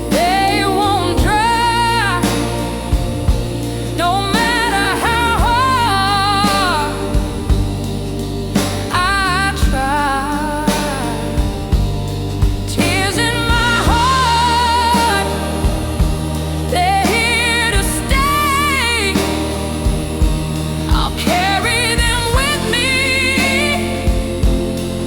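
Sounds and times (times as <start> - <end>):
person singing wordless phrases: 0.0 - 25.0
slow blues ballad: 0.0 - 25.0.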